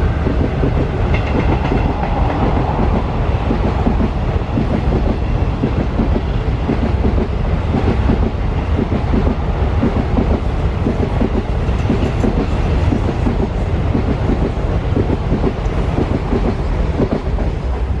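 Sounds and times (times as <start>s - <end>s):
train rumble: 0.0s - 18.0s
train wheels clacking over rail joints: 0.1s - 17.9s.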